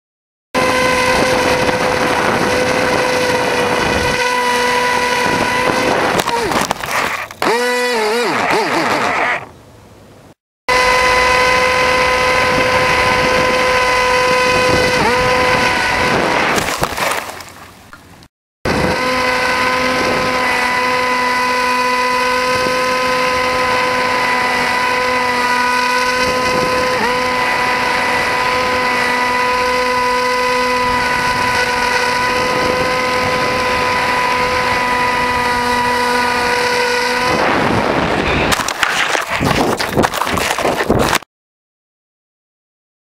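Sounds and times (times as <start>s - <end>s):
electric motor and propeller whining: 0.6s - 17.5s, 18.7s - 41.3s.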